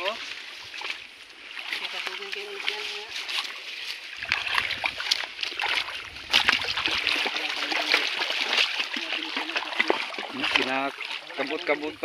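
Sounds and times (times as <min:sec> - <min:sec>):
shallow river water running: 0:00.0 - 0:12.0
water splashing around wading legs: 0:00.0 - 0:12.0.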